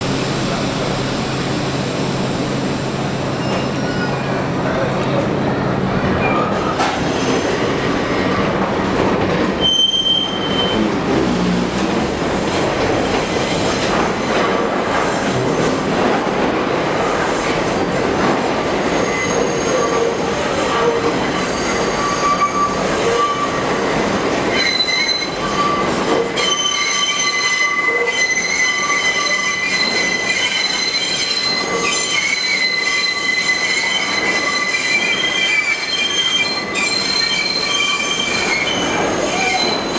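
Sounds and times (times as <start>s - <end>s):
subway train rumble: 0.0s - 39.9s
steel wheels squealing on rails: 0.2s - 39.9s.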